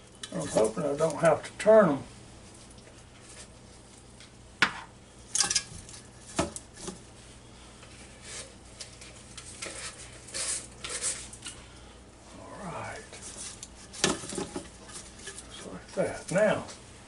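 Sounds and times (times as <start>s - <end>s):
soft rustling handling noise: 0.0s - 4.4s, 5.8s - 17.0s.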